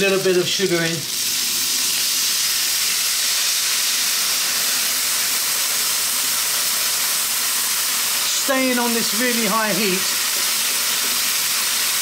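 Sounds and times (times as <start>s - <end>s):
liquid sizzling in a hot pan: 0.0s - 12.0s.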